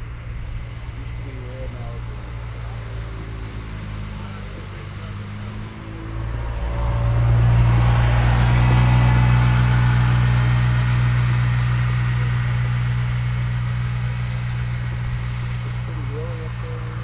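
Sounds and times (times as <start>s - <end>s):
combine harvester engine hum: 0.0s - 17.0s.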